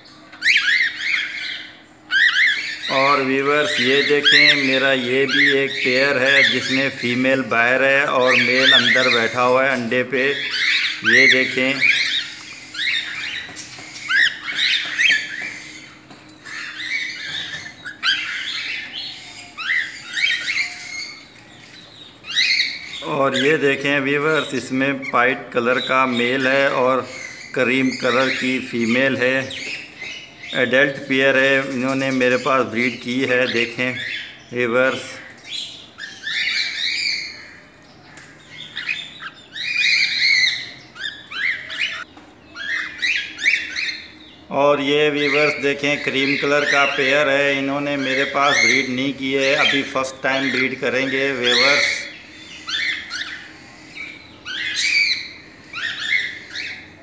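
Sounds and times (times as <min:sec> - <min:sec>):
cockatiels chirping and squawking: 0:00.0 - 0:57.0.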